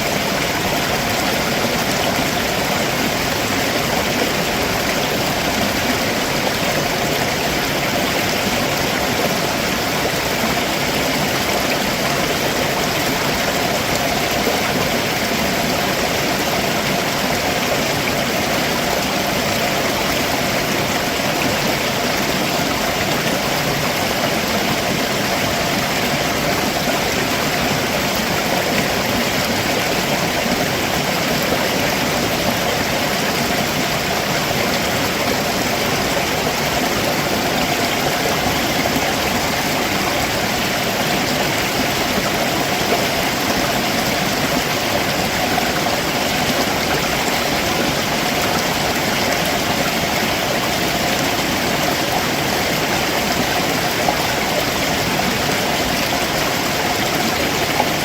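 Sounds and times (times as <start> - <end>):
stream water over rocks: 0.0 - 58.0.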